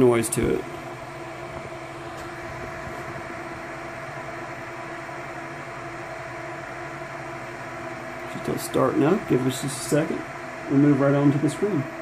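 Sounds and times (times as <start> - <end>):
server cooling fans running: 0.0 - 12.0.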